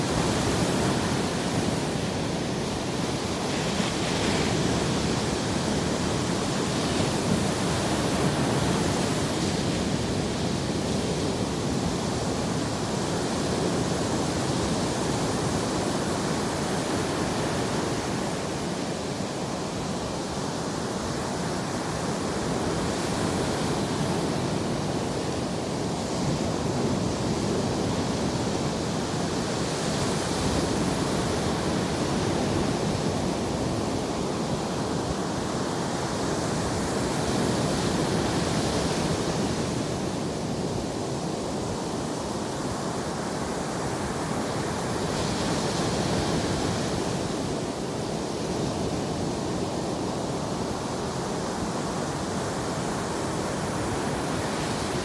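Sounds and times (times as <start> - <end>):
surf washing on beach: 0.0 - 55.0.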